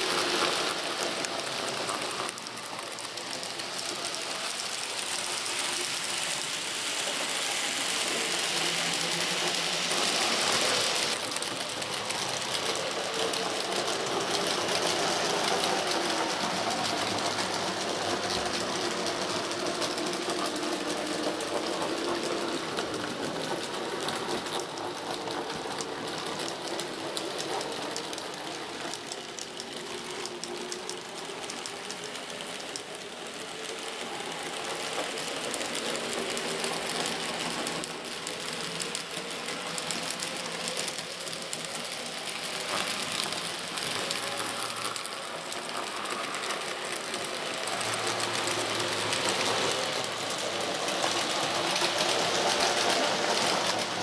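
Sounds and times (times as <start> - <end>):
wheels clicking on track: 0.0 - 54.0.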